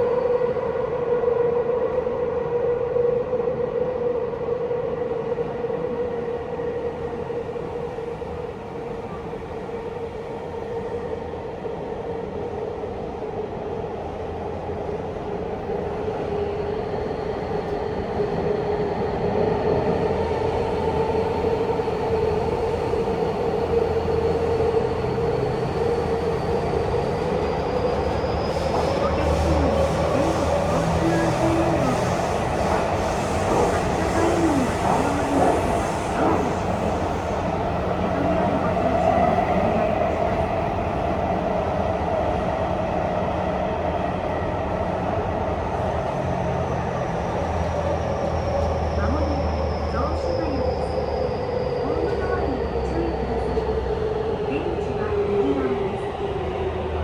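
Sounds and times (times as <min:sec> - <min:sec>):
electric train running in tunnel: 0:00.0 - 0:57.0.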